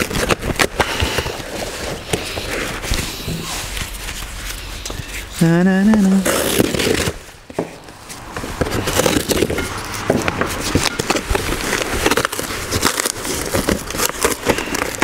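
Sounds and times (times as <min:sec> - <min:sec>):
cardboard box being torn open: 0:00.0 - 0:05.2, 0:06.0 - 0:07.4, 0:08.1 - 0:15.0.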